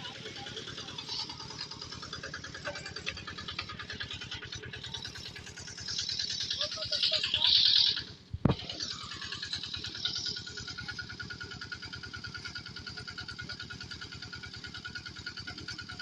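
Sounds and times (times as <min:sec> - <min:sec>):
constant whine: 0:00.0 - 0:16.0
small engine chugging: 0:00.0 - 0:16.0.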